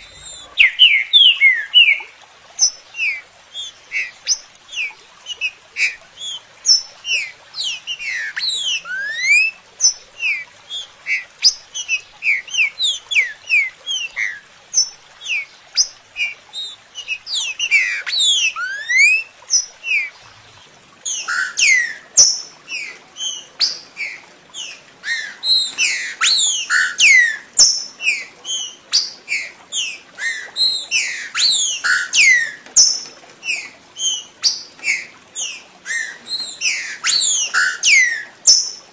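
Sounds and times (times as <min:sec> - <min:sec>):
bird song whistled notes: 0:00.0 - 0:20.1, 0:21.0 - 0:38.9.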